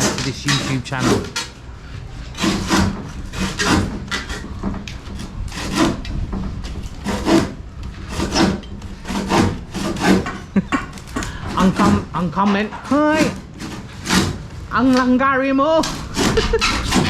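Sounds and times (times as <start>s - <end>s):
hand saw cutting wood: 0.0s - 1.6s, 2.2s - 10.5s, 11.2s - 12.2s, 12.8s - 14.5s, 15.8s - 17.0s.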